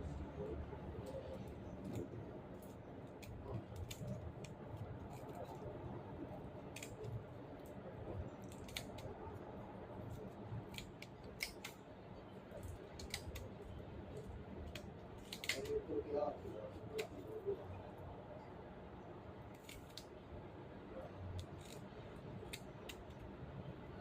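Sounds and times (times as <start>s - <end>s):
low steady rumble: 0.0s - 19.6s.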